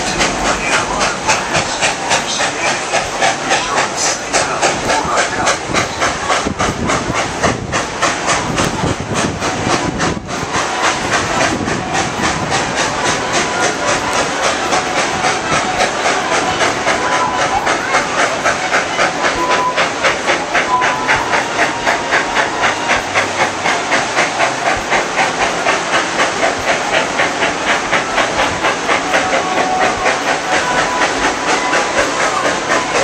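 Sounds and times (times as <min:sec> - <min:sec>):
hiss of steam: 0:00.0 - 0:33.0
steam locomotive chuffing: 0:00.0 - 0:33.0.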